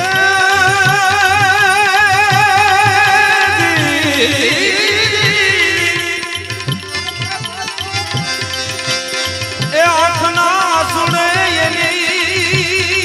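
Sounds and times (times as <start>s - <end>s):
devotional song melody: 0.0s - 13.0s
hand drum rhythm: 0.0s - 13.0s.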